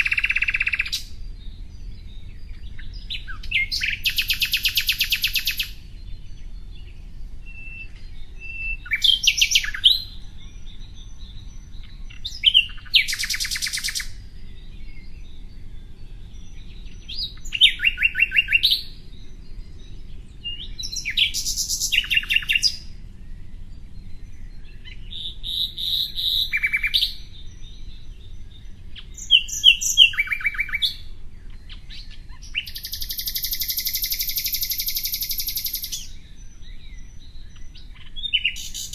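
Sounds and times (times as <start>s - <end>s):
faint low hum: 0.0s - 38.9s
songbird chirping and trilling: 0.0s - 38.9s.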